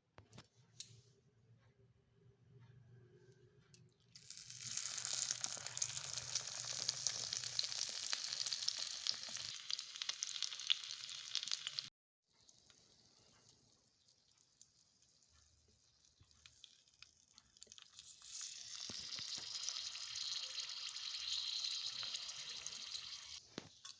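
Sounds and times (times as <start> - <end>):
food sizzling in a pan: 4.2 - 23.9.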